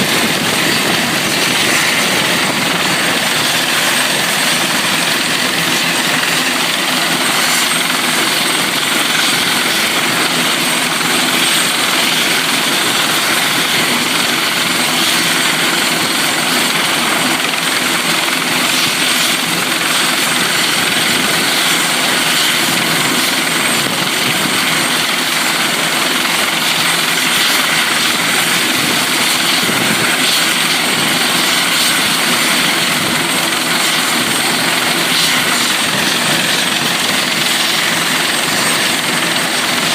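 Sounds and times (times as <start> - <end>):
helicopter turbine and rotor drone: 0.0 - 39.9.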